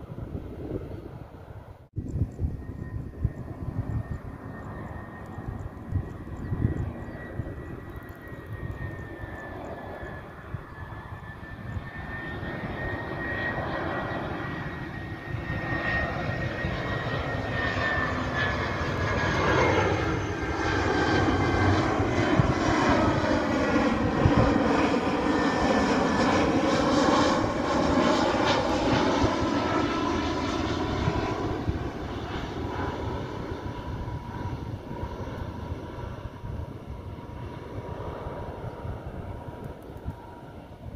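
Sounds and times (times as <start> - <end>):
jet airliner rushing roar: 0.0 - 40.9
jet engine whine: 0.0 - 40.9.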